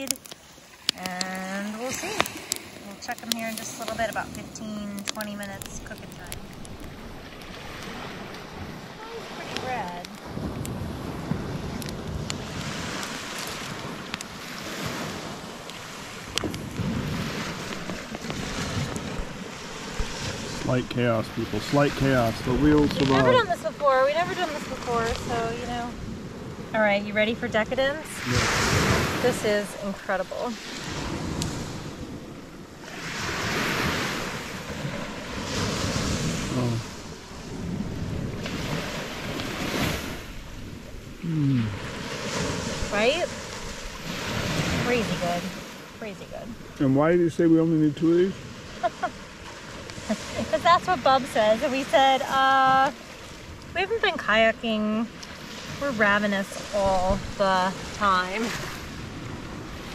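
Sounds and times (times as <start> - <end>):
waves washing on shore: 0.0 - 59.9
wind on microphone: 0.0 - 59.9.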